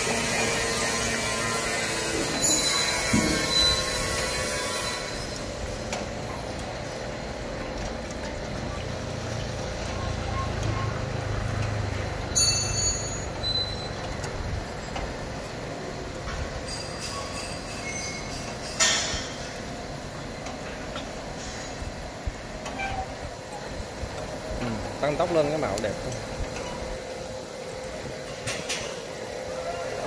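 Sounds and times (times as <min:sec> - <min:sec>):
conveyor belt grinding and rattling: 0:00.0 - 0:30.0.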